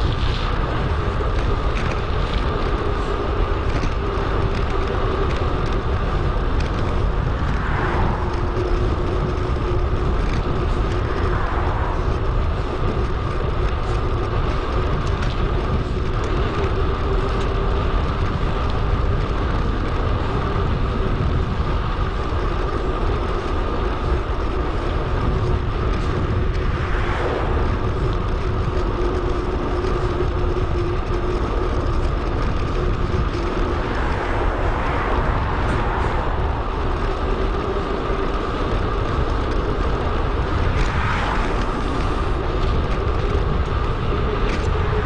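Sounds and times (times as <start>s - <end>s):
wind rush and rolling noise: 0.0s - 45.0s.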